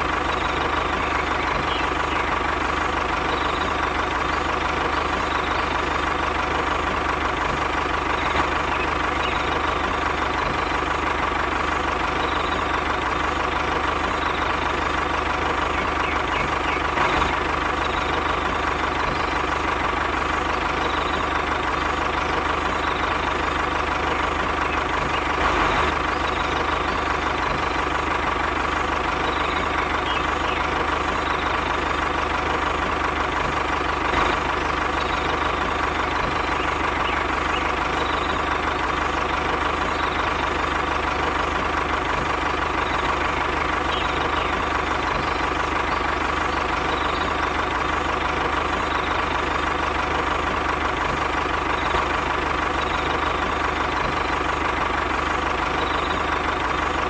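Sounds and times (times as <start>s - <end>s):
constant whine: 0.0s - 57.0s
toy tractor engine drone: 0.0s - 57.0s.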